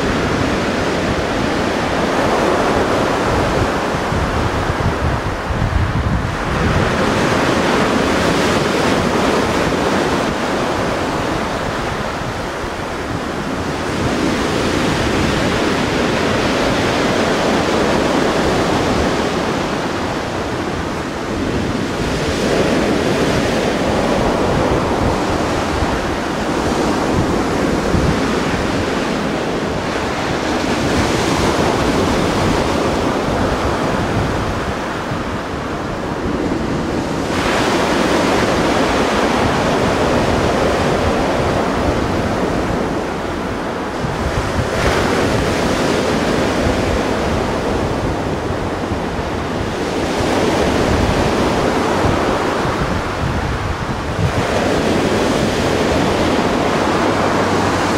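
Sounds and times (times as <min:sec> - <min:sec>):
sea surf washing: 0:00.0 - 0:57.9
wind rumbling on microphone: 0:00.0 - 0:57.9.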